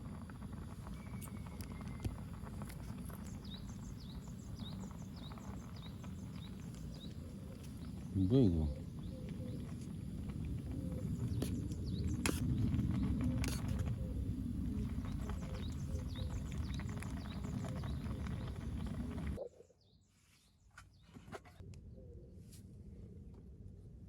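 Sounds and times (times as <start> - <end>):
low outdoor rumble: 0.0 - 19.4.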